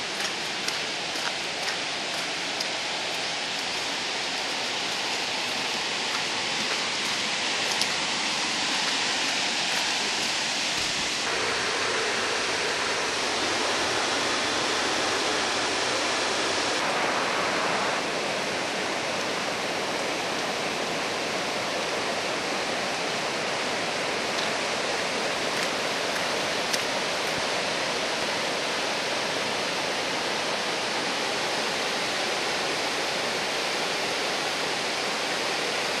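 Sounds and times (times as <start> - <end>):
river rushing over a weir: 0.0 - 36.0.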